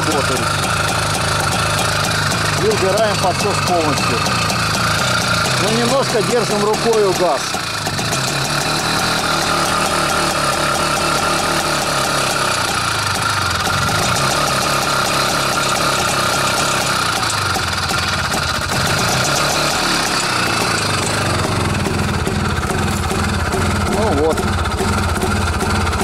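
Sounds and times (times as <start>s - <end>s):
two-stroke motorcycle engine running: 0.0s - 26.0s.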